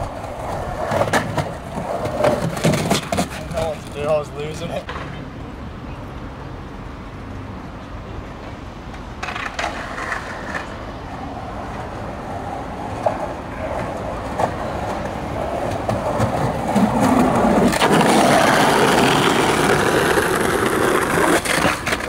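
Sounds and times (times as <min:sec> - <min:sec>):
skateboard wheels rolling on bricks: 0:00.0 - 0:05.2, 0:08.4 - 0:22.0.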